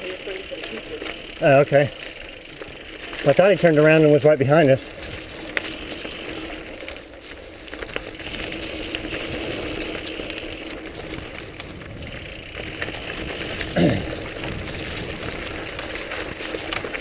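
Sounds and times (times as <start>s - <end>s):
bike rattles and clicks: 0.0s - 17.0s
bike tyres on leafy dirt trail: 0.0s - 17.0s.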